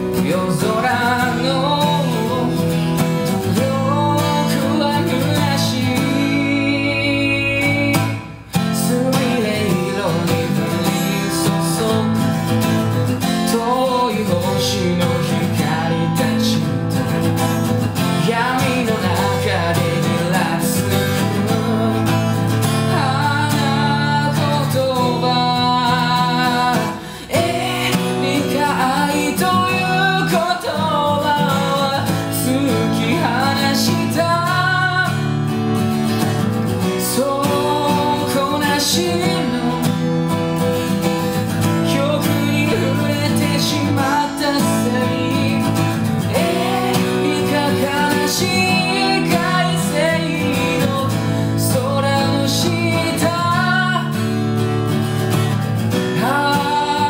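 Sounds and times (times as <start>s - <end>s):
man singing: 0.0s - 57.0s
strummed acoustic guitar: 0.0s - 57.0s.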